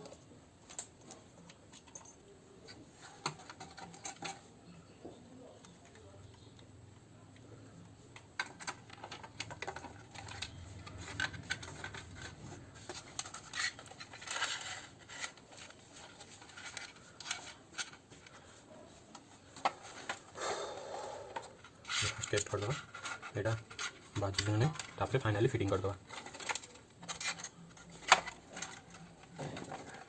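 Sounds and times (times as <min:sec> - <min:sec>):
plastic and metal parts clicking: 0:00.0 - 0:04.5, 0:07.3 - 0:18.4, 0:21.4 - 0:30.0.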